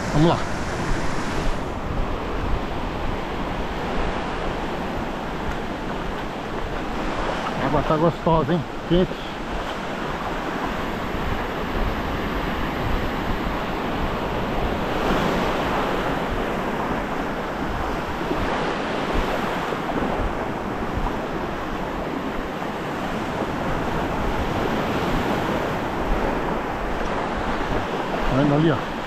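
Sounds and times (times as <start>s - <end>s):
ocean surf breaking: 0.0s - 29.0s
wind rumbling on microphone: 0.0s - 29.0s.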